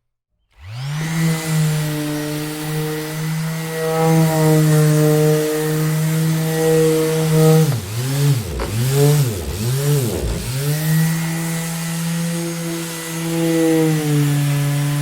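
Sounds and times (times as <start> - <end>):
orbital sander buzzing: 0.6 - 15.0.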